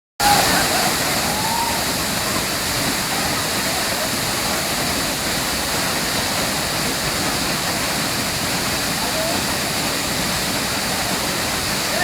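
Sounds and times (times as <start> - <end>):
waterfall roaring: 0.2 - 12.0.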